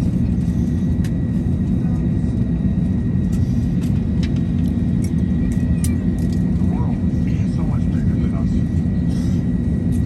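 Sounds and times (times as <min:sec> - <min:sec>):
cabin air system rumble: 0:00.0 - 0:10.0.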